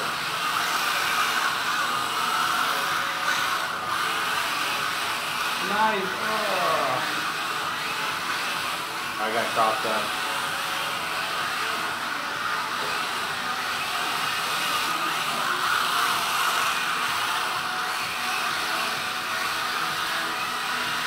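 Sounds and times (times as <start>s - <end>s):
small electric motors whirring: 0.0s - 21.0s.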